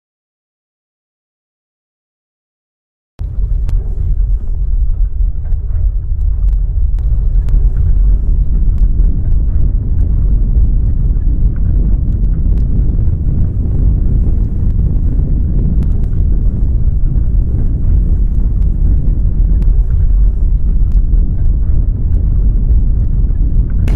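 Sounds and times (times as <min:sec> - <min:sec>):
deep rumble: 0:03.2 - 0:23.9
sharp cracks and rattles: 0:03.2 - 0:23.9.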